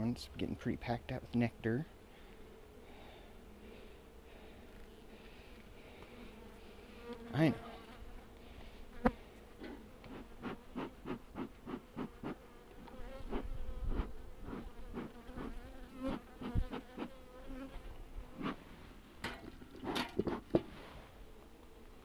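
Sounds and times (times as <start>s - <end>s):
honeybees buzzing: 1.3s - 19.0s.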